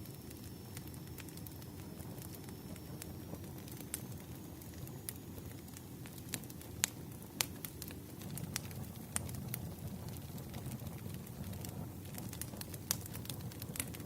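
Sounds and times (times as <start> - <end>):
low steady rumble: 0.0 - 14.0
wood fire crackling and popping: 0.0 - 14.0.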